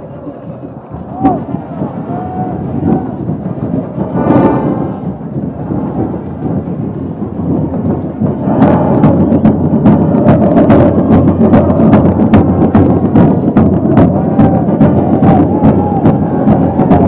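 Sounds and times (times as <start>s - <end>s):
drums beating rapidly: 0.0s - 17.0s
stadium crowd roaring: 0.0s - 17.0s.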